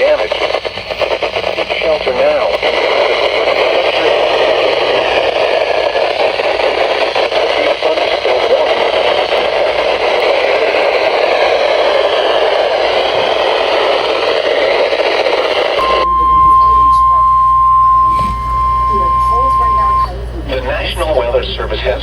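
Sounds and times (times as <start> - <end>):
radio static: 0.0 - 22.0.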